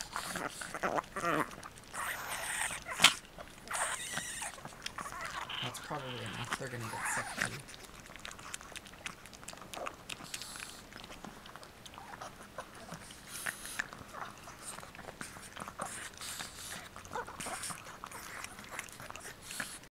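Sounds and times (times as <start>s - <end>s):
dogs licking smacking clicks: 0.0s - 19.8s.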